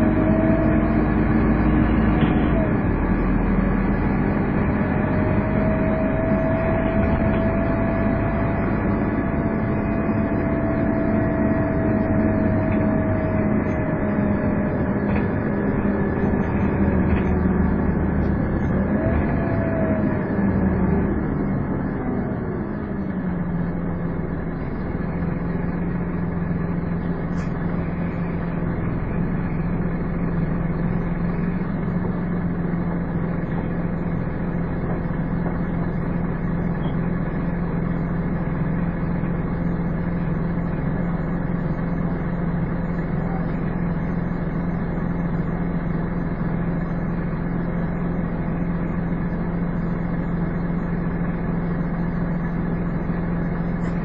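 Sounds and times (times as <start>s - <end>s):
bus diesel engine idling: 0.0s - 54.0s.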